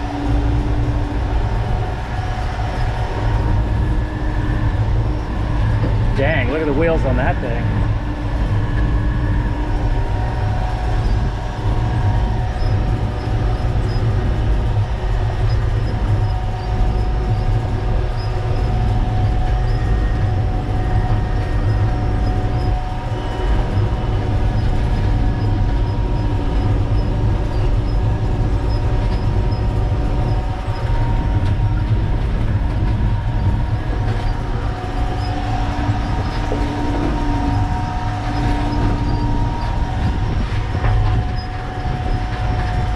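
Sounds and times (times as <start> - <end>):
multi-tone whine: 0.0 - 42.9
truck engine rumble: 0.0 - 42.9.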